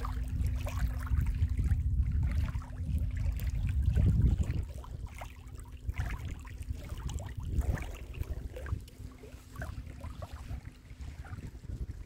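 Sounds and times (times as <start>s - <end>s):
faint steady hum: 0.0s - 12.0s
lake waves lapping: 0.0s - 12.0s
wind buffeting microphone: 0.0s - 12.0s.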